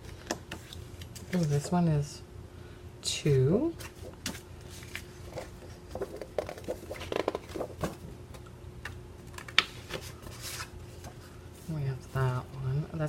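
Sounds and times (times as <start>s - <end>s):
paper rustling and shuffling: 0.0s - 1.8s, 3.8s - 12.6s.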